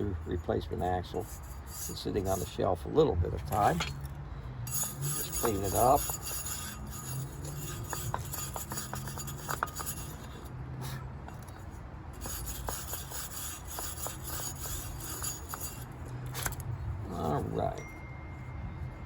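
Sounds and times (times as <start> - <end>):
rubbing and scraping on metal: 0.0 - 4.1, 4.7 - 17.8.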